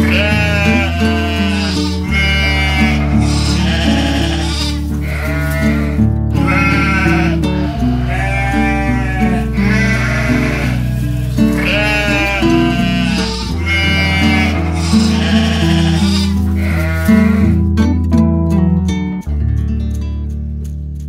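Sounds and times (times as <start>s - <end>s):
sheep bleating: 0.0s - 17.6s
background music of held chords: 0.0s - 21.0s.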